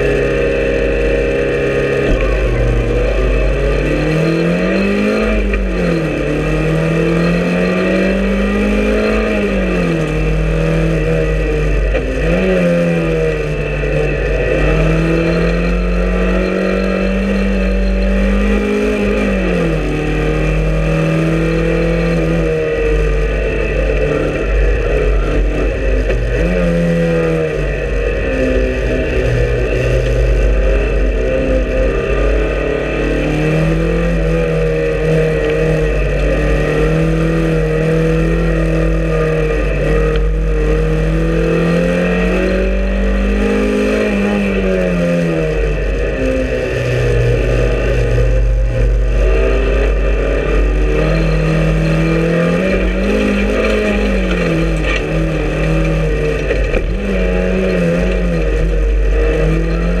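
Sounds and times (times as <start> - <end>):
low road rumble: 0.0 - 60.0
race car engine revving: 0.0 - 60.0.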